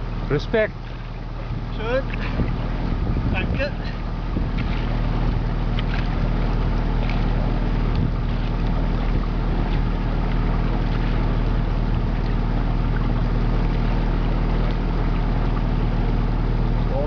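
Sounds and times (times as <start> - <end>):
motorboat engine droning: 0.0 - 17.0
water rushing along hull: 0.0 - 17.0.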